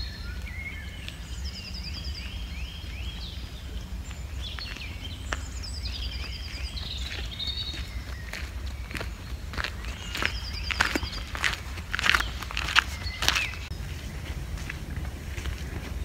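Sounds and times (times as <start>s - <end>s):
songbird singing: 0.0s - 16.0s
wind rumble on microphone: 0.0s - 16.0s.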